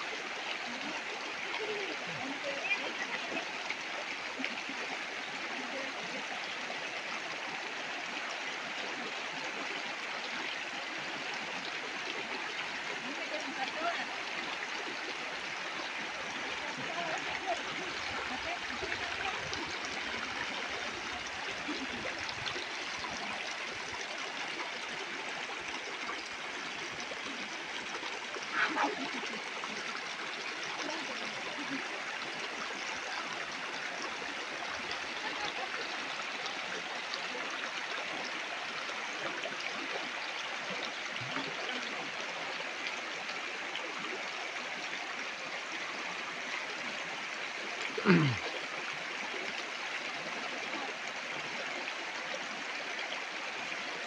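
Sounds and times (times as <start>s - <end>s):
river water rushing over rocks: 8.9s - 54.0s.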